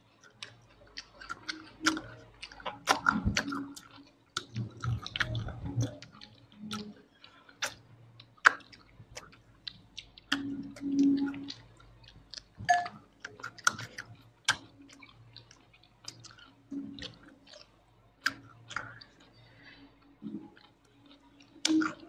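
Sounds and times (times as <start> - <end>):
wet chewing: 0.1 - 22.0
mouth clicks and smacks: 0.2 - 22.0.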